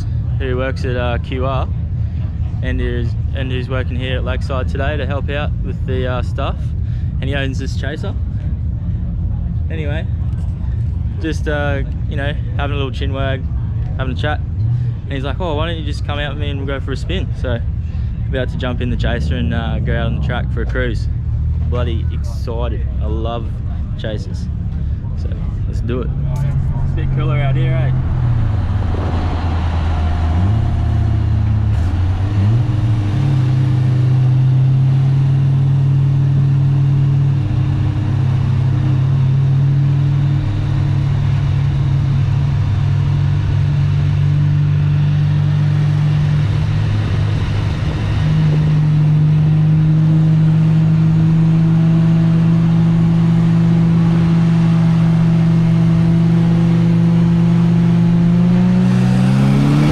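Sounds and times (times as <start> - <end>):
car engine cruising: 0.0 - 59.9.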